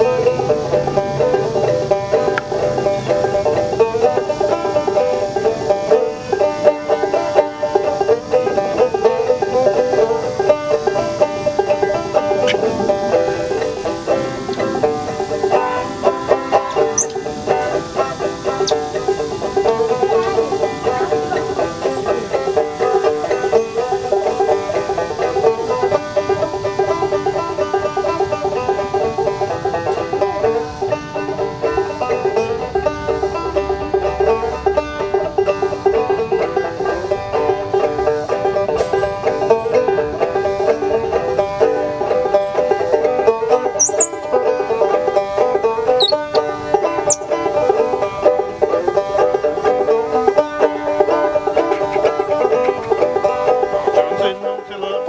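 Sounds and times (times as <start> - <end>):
banjo picking lively tune: 0.0 - 55.0.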